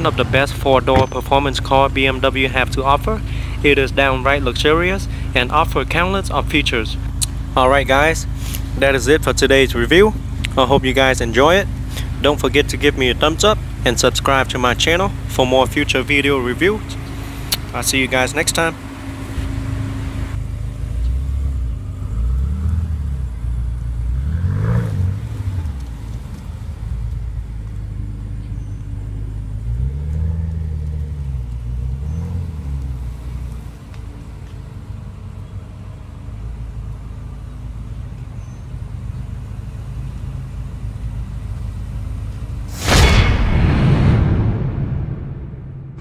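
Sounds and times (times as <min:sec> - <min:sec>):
car engine revving and idling: 0:00.0 - 0:42.7.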